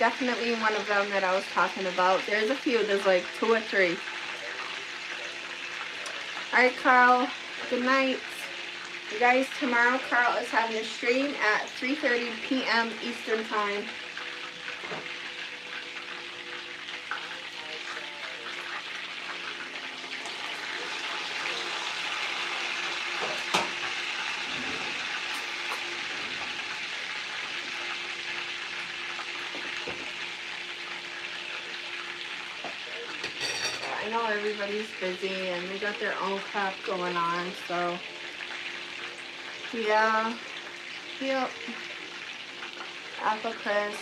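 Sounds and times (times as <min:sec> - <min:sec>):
chicken sizzling in frying pan: 0:00.0 - 0:44.0.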